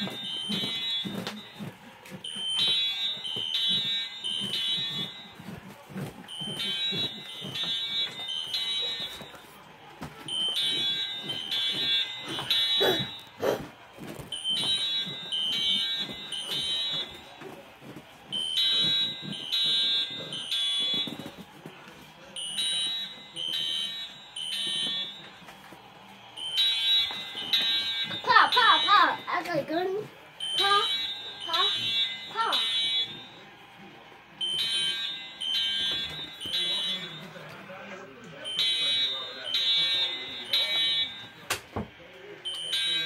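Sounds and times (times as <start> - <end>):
fire alarm beeping: 0.0 - 37.7, 38.4 - 43.0.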